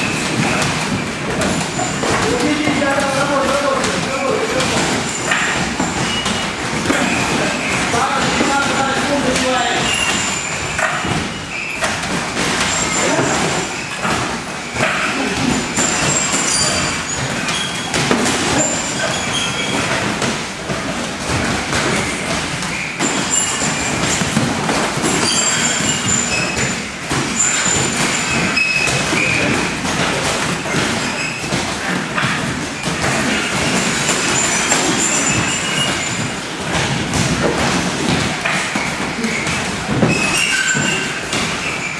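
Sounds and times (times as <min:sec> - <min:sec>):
noisy gym din: 0:00.0 - 0:41.9.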